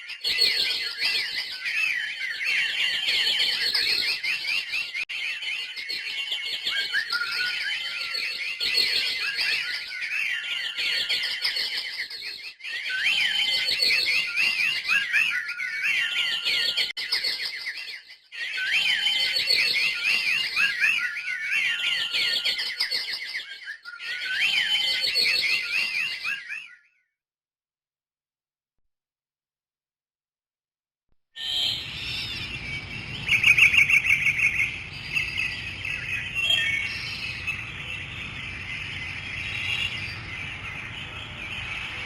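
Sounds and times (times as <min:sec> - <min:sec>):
small birds chirping: 0:00.0 - 0:26.8, 0:31.4 - 0:42.0.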